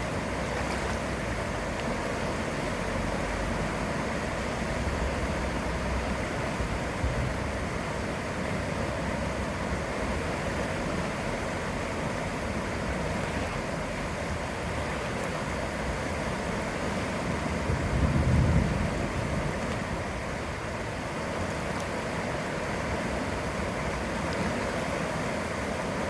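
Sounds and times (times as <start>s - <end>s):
river rushing in flood: 0.0s - 26.0s.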